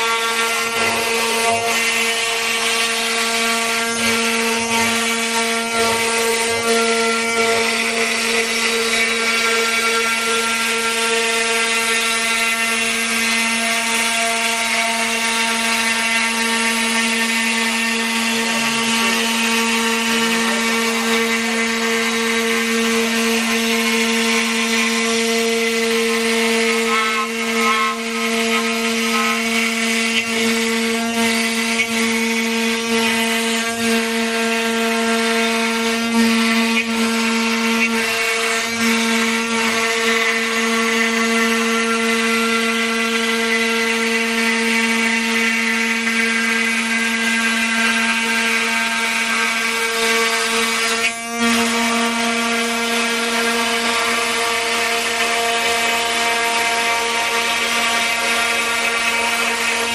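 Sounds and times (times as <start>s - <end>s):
bit cutting wood rasp: 0.0s - 59.9s
router spindle whining: 0.0s - 59.9s.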